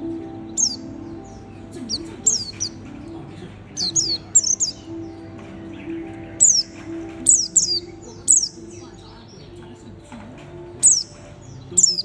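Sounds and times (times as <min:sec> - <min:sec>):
bird chirping high: 0:00.0 - 0:12.0.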